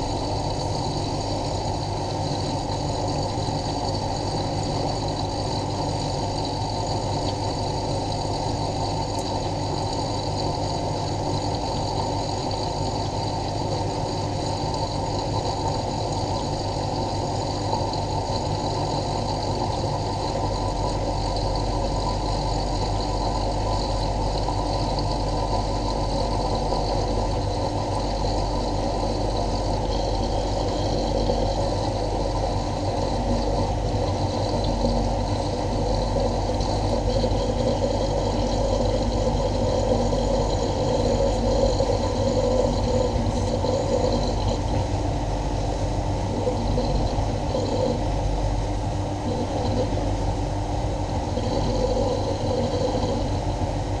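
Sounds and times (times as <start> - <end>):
washing machine motor and drum hum: 0.0 - 54.0.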